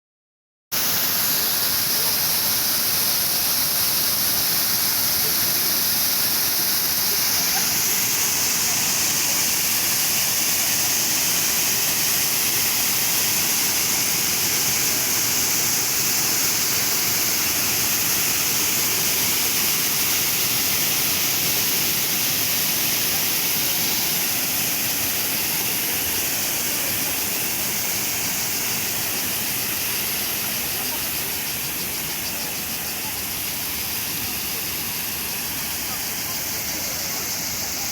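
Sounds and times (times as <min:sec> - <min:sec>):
water rushing: 0:00.8 - 0:37.9.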